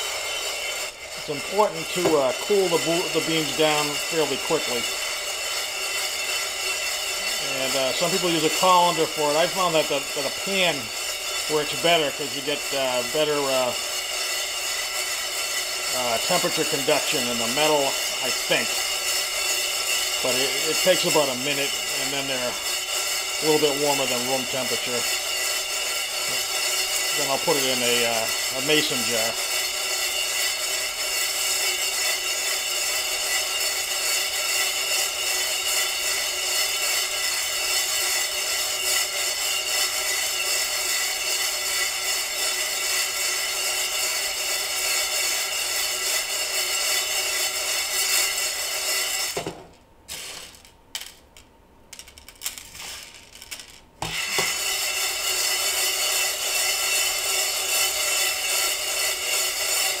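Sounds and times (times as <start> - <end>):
coffee beans rattling in saucepan: 0.0 - 60.0.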